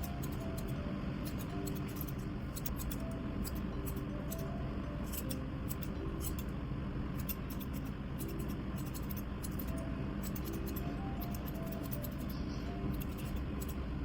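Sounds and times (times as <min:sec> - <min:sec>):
scissors snipping fur: 0:00.0 - 0:06.5, 0:07.1 - 0:13.8.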